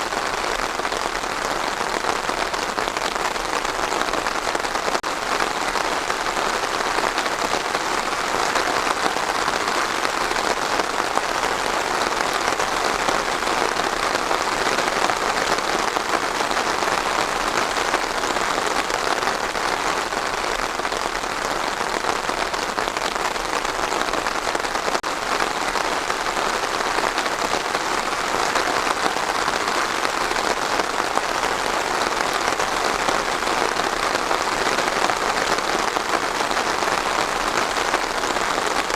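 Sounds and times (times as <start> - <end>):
rain patter on a surface: 0.0 - 38.9.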